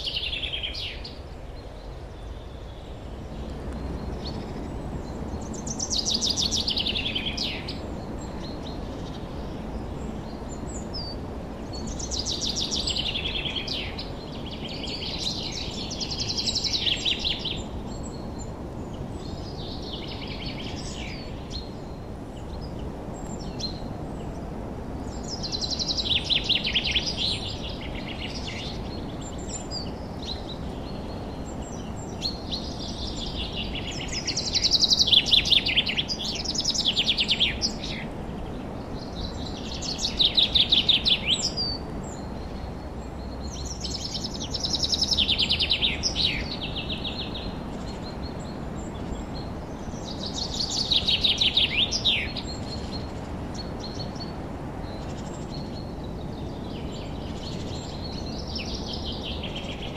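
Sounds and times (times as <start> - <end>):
low background hiss: 0.0 - 59.9
songbirds singing: 0.0 - 59.9.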